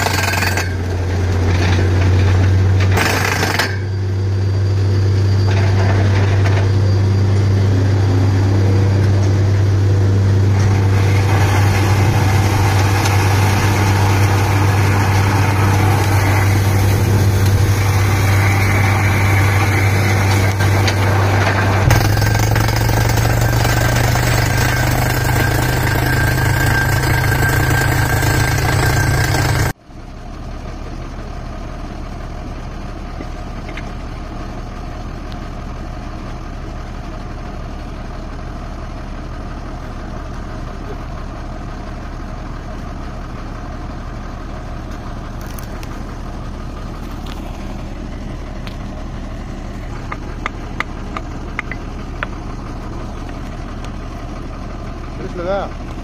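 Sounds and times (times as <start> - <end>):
drilling rig engine humming: 0.0 - 56.0.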